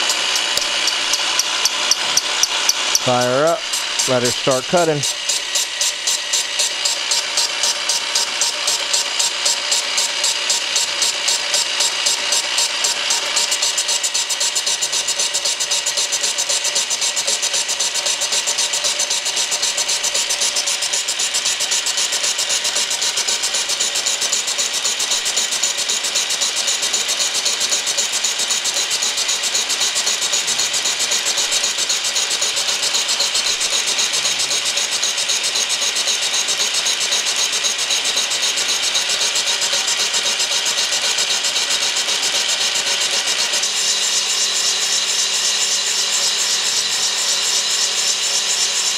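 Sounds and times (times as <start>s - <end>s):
boring bar cutting metal: 0.0s - 48.9s.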